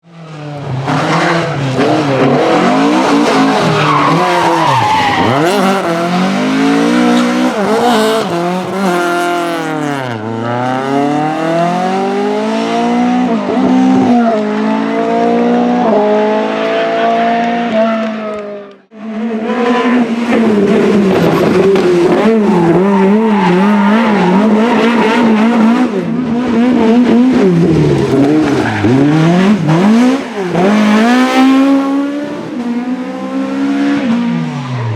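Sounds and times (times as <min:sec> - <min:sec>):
rally car engines revving: 0:00.1 - 0:34.9.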